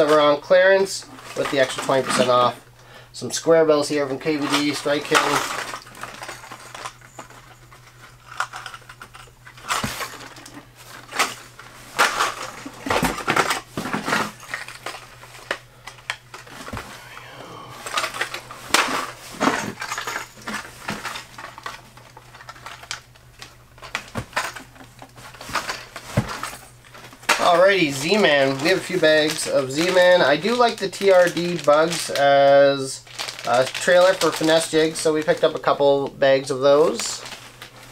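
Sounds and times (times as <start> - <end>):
plastic packages clattering and crinkling: 0.0 - 2.6, 3.2 - 37.9.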